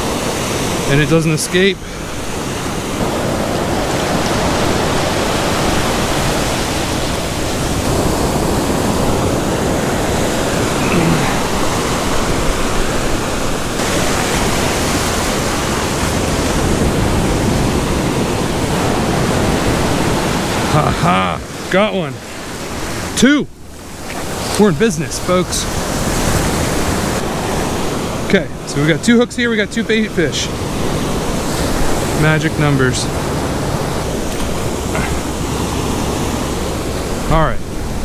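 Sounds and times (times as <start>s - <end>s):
ocean waves breaking on sand: 0.0s - 38.0s.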